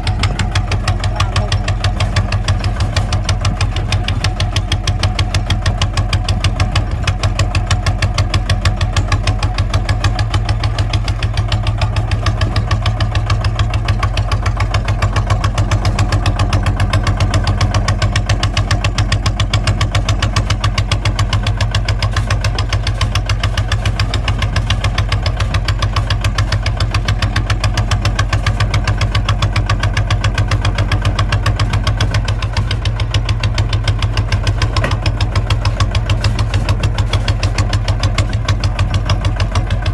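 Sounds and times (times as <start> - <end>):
diesel engine knocking steadily: 0.0 - 39.9.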